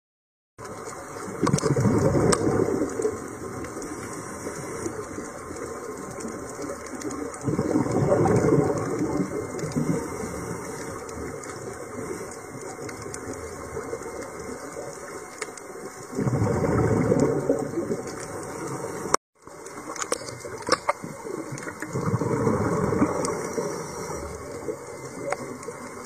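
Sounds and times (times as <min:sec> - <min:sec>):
exhaled bubbles rushing: 0:00.6 - 0:15.2, 0:15.9 - 0:26.0
small clicks: 0:00.6 - 0:16.1, 0:16.8 - 0:26.0
steady watery hiss: 0:00.6 - 0:26.0.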